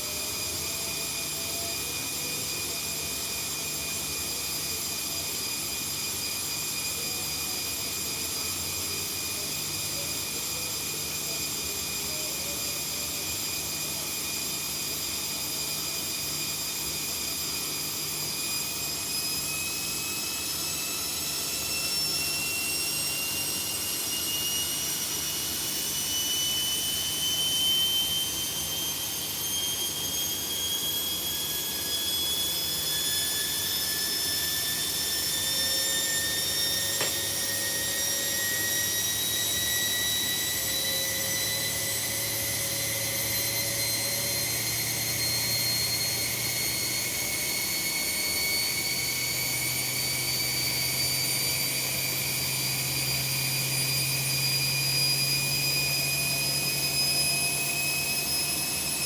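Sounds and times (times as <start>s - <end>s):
washing machine motors whining: 0.1s - 59.0s.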